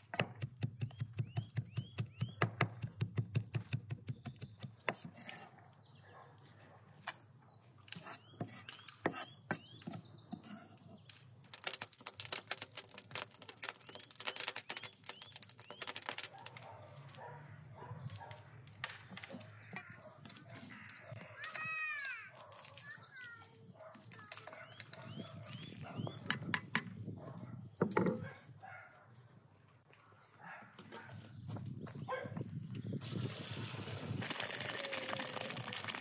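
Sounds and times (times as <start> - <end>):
small birds chirping: 0.0 - 33.2.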